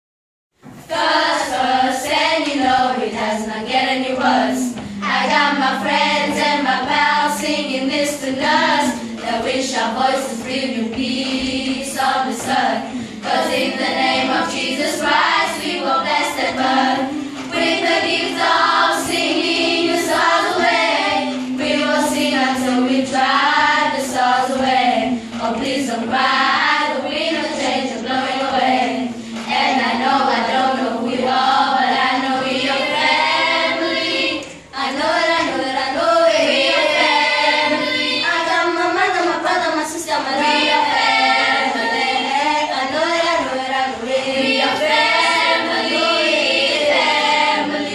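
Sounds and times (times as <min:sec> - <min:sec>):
children's choir singing a cappella: 0:00.6 - 0:47.9.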